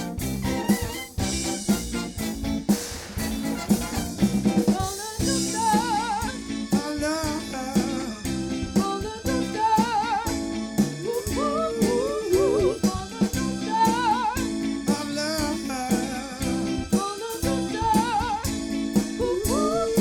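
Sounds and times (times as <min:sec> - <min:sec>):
drum kit snare and rim shots: 0:00.0 - 0:20.0
soul band playing: 0:00.0 - 0:20.0.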